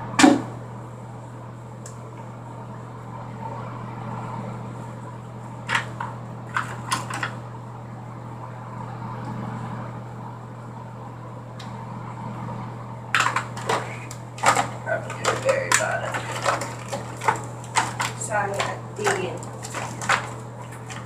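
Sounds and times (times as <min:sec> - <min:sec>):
exhaust fan humming: 0:00.0 - 0:21.0.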